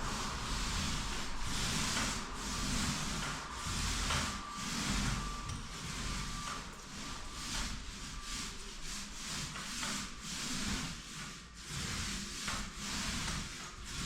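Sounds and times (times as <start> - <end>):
paint roller swishing on wall: 0.0 - 14.0.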